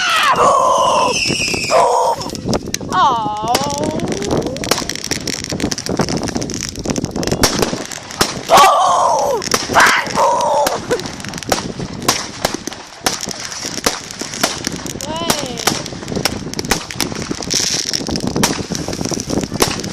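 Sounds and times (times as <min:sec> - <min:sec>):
fireworks pops and bangs: 0:01.1 - 0:19.9.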